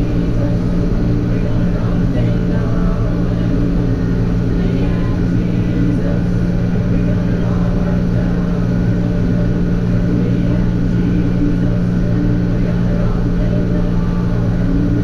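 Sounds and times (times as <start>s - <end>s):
vehicle engine low drone: 0.0s - 15.0s.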